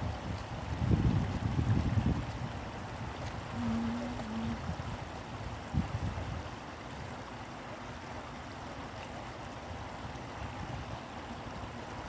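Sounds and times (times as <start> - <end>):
stream flowing over stones: 0.0 - 12.0.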